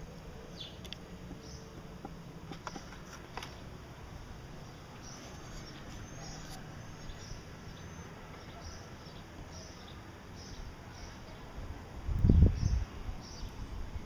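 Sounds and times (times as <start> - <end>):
small birds chirping: 0.0 - 3.8, 4.4 - 14.0
steady background hiss: 0.0 - 14.0.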